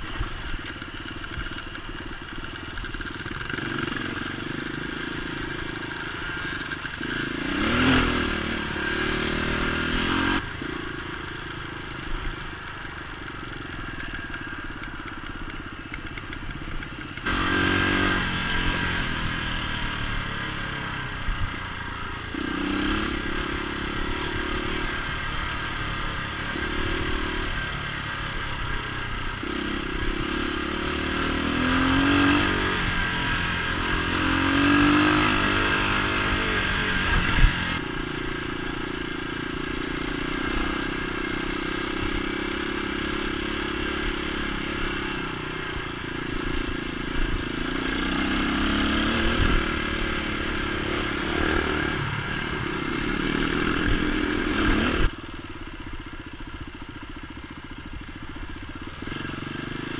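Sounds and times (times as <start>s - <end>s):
dirt bike engine revving: 0.0s - 55.2s.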